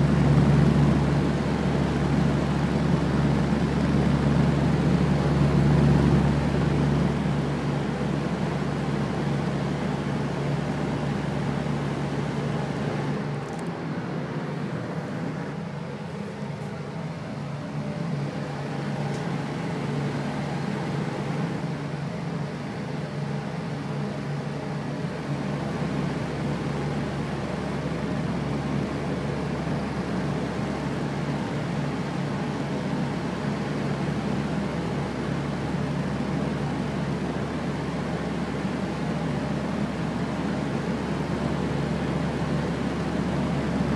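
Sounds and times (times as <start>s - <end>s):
electric fan running: 0.0s - 43.9s.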